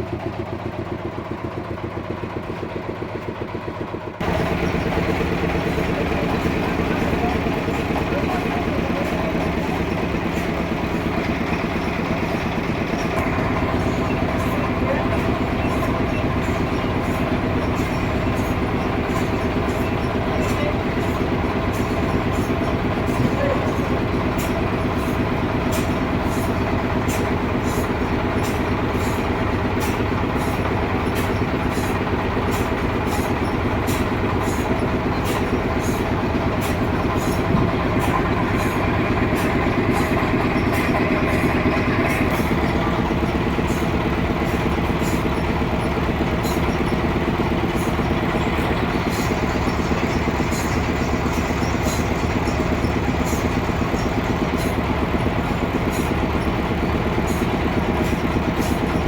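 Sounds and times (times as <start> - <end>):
sawmill sawing a log: 4.2 - 59.0.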